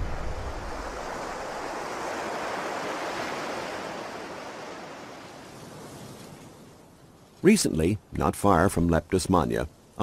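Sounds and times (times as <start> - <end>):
waves breaking on a beach: 0.0 - 10.0.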